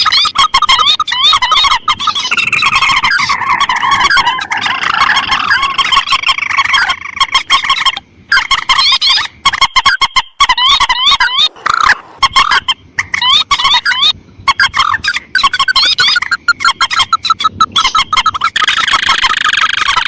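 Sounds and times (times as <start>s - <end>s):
rails and crakes chattering: 0.0s - 20.0s.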